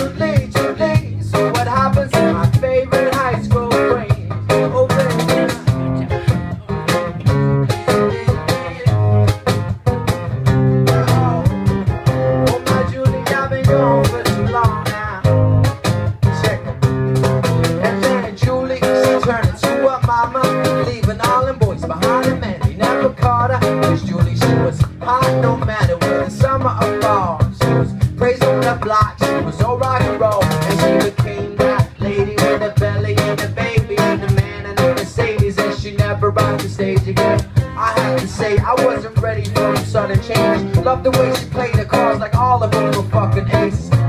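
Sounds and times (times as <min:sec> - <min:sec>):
man singing into a microphone: 0:00.0 - 0:09.3, 0:10.7 - 0:16.8, 0:17.7 - 0:44.0
bass guitar: 0:00.0 - 0:44.0
drum beat: 0:00.0 - 0:44.0
electric guitars: 0:00.0 - 0:44.0.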